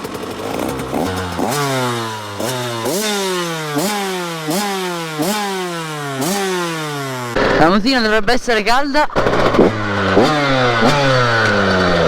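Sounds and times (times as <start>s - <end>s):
two-stroke engine revving: 0.0s - 8.2s, 9.0s - 12.0s.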